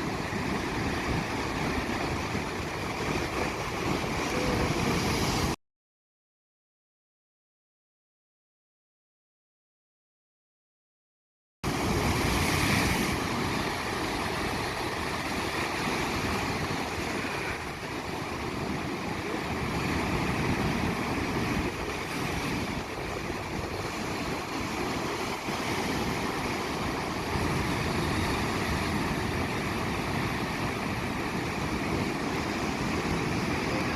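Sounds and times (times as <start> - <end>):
ocean surf washing: 0.0 - 5.6, 11.6 - 33.9
wind noise on microphone: 0.0 - 5.6, 11.7 - 33.9.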